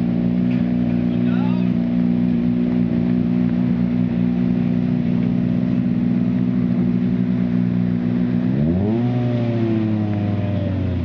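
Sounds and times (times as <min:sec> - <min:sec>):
rally car engine idling and revving: 0:00.0 - 0:11.0.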